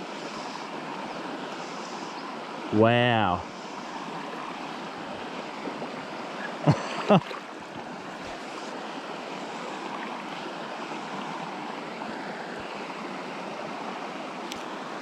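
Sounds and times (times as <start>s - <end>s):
river running over stones: 0.0s - 15.0s.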